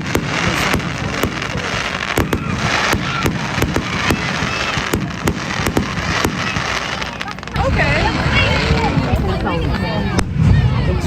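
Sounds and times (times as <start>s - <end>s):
crackling hiss: 0.0s - 9.5s
fireworks cracking and popping: 0.0s - 10.7s.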